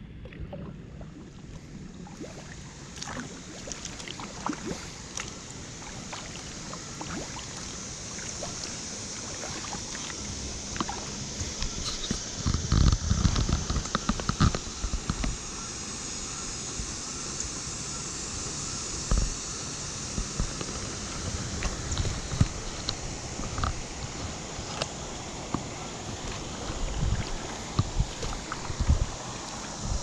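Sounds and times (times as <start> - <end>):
low thumps and water sloshing: 0.0 - 15.4, 20.1 - 30.0
paddle drips and splashes: 0.1 - 15.4, 20.1 - 30.0.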